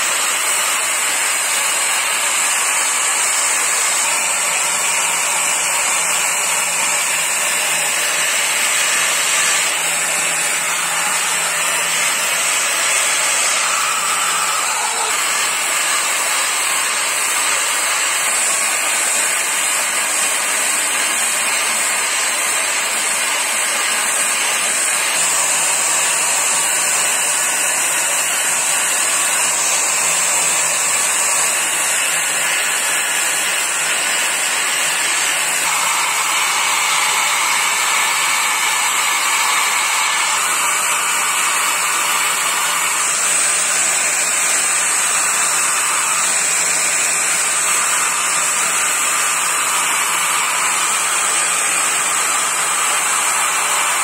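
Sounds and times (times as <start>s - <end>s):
angle grinder grinding steel: 0.0s - 54.0s.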